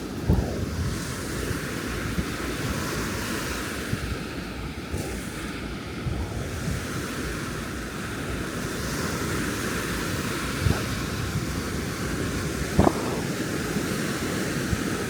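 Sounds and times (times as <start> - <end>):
ocean surf washing onto beach: 0.0 - 15.0
wind rumbling on microphone: 0.0 - 15.0.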